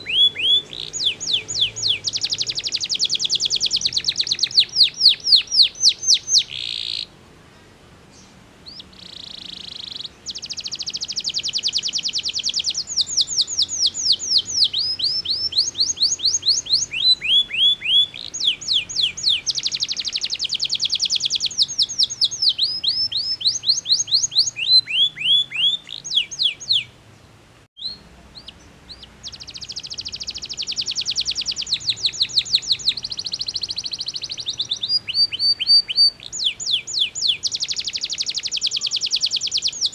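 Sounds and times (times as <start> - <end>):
canary singing trills: 0.0 - 27.0, 27.8 - 39.9.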